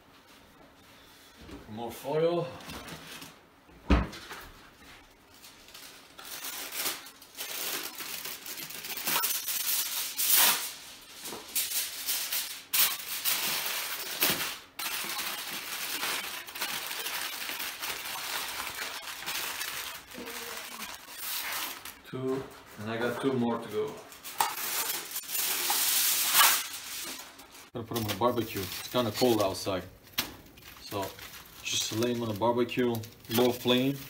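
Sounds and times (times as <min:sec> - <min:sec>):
aluminium foil crinkling: 0:05.0 - 0:22.1, 0:22.7 - 0:34.0.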